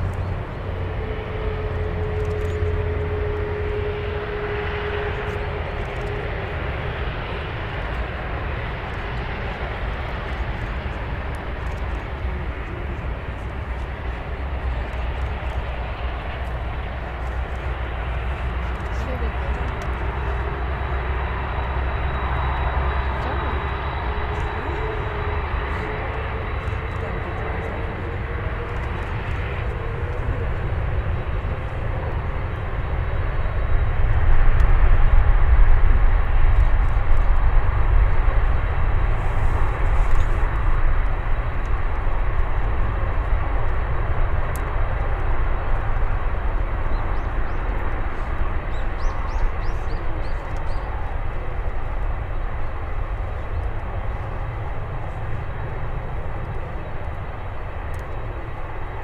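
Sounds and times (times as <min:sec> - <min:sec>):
jet airliner takeoff rumble: 0:00.0 - 0:59.0.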